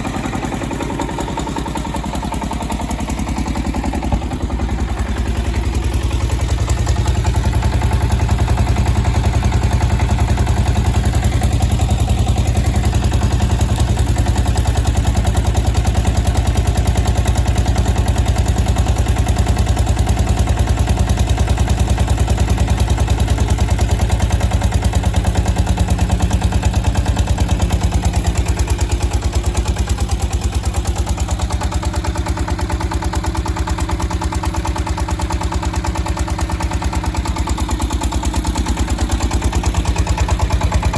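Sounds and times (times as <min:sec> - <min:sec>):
generator engine pulsing: 0:00.0 - 0:40.9.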